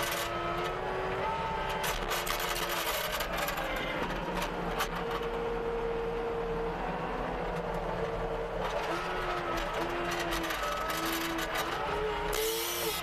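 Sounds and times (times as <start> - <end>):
skid steer engine and hydraulics: 0.0 - 13.0
whining tone: 0.0 - 13.0.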